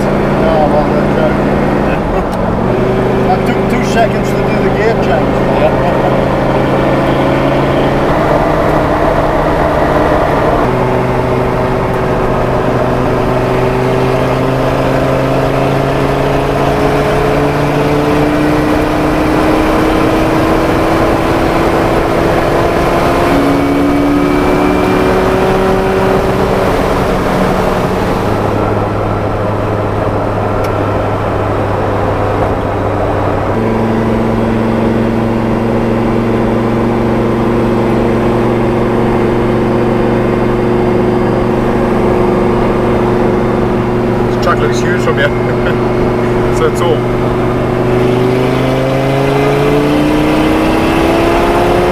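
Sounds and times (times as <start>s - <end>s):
car engine pulling under load: 0.0s - 51.9s.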